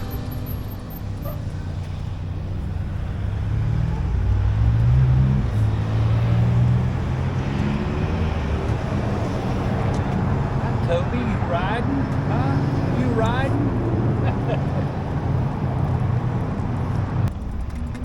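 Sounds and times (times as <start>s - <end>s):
vehicle engine passing: 0.0s - 17.3s
road and wind noise: 0.0s - 18.0s.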